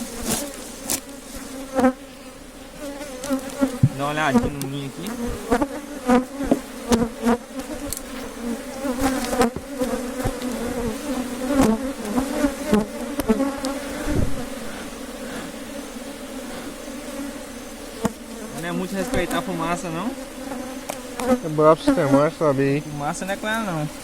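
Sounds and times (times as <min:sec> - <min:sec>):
honey bees buzzing: 0:00.0 - 0:24.0.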